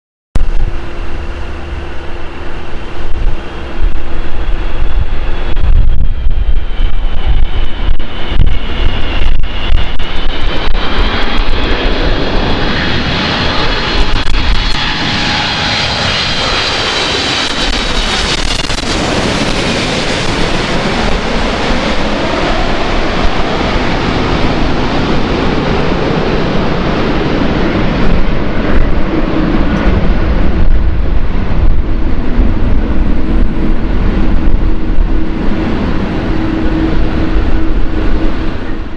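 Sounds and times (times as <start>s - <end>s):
jet airplane passing overhead: 0.4s - 38.9s
wind buffeting microphone: 0.4s - 38.9s.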